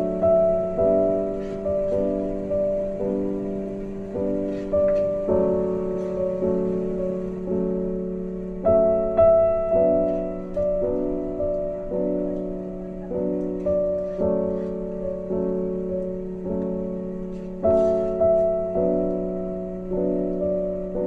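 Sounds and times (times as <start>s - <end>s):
slow soft piano chords: 0.0s - 21.0s.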